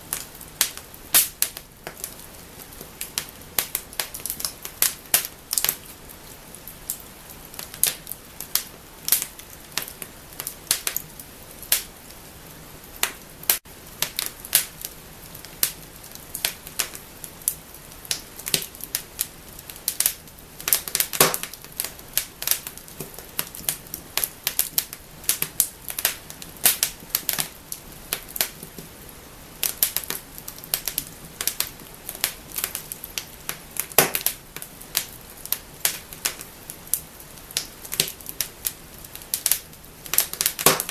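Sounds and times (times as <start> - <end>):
hiss of flames: 0.0 - 40.9
wood fire crackling: 0.0 - 40.9.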